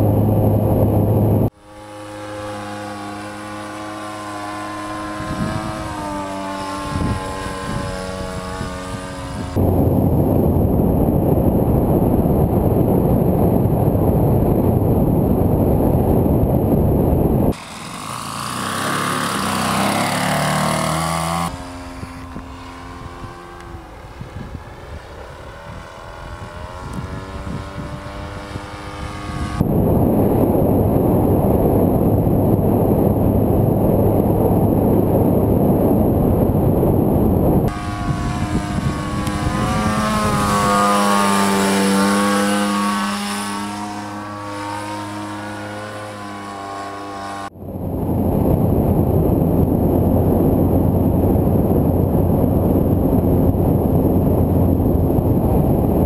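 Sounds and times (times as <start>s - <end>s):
model plane engine drone: 0.0s - 56.0s
wind-buffeted model plane engine: 0.0s - 56.0s.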